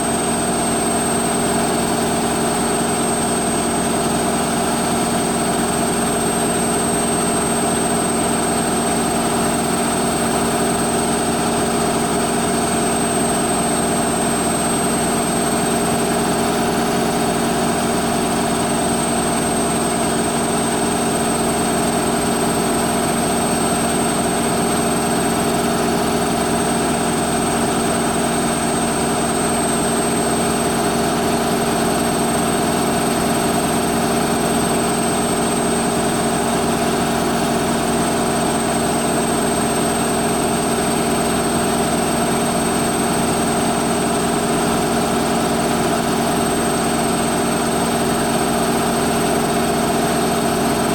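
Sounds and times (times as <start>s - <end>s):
washing machine spinning: 0.0s - 50.9s.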